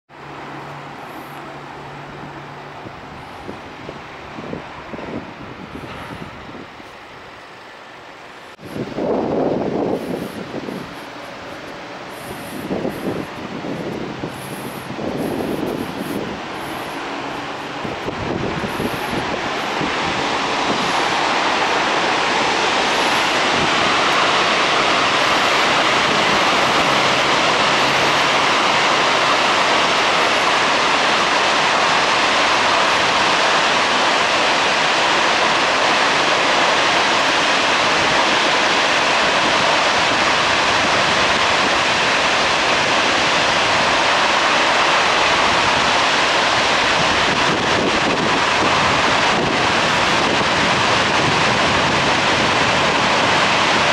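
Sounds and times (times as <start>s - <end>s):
roar of falling water: 8.7s - 53.9s.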